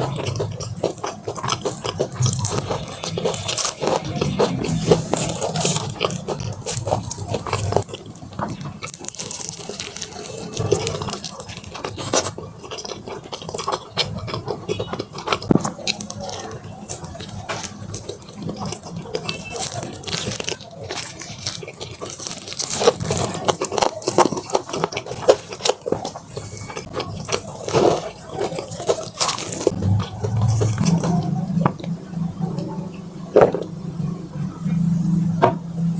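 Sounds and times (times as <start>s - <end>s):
crisp coating crunching: 0.0s - 32.6s
wet chewing and smacking: 0.0s - 32.7s.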